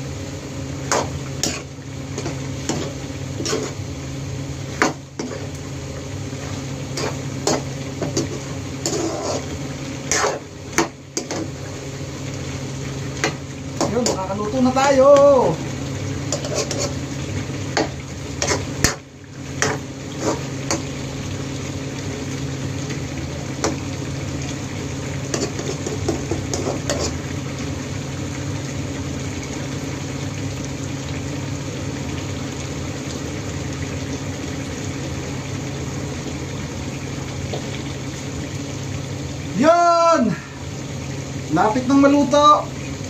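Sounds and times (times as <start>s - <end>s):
sauce simmering in a pan: 0.0s - 43.0s.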